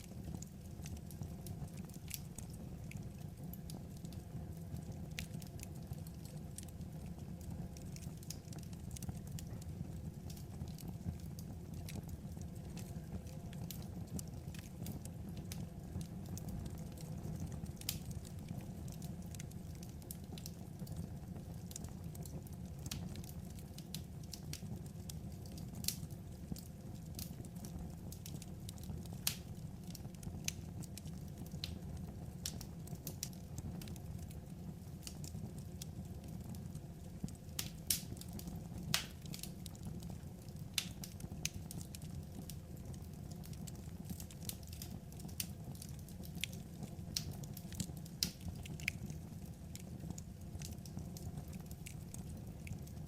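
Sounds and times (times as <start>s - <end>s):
low rumble of burning: 0.0s - 53.0s
wood fire crackling: 0.0s - 53.0s.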